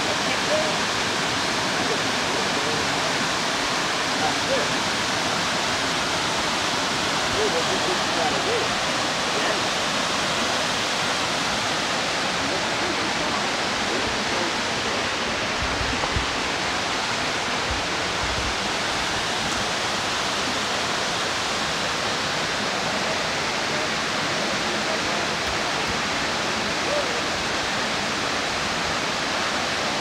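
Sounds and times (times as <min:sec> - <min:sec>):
waterfall rushing over rocks: 0:00.0 - 0:30.0.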